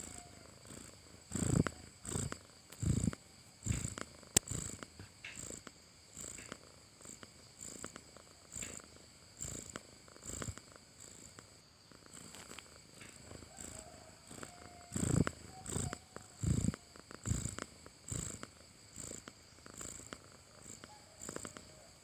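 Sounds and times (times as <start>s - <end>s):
cat snoring: 0.0s - 21.7s.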